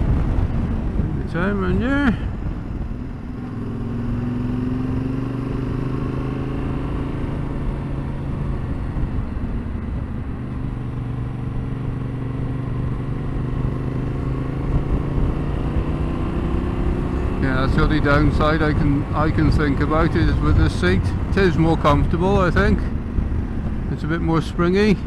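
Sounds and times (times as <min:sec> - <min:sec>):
motorcycle engine running: 0:00.0 - 0:25.0
wind rumbling on microphone: 0:00.0 - 0:25.0.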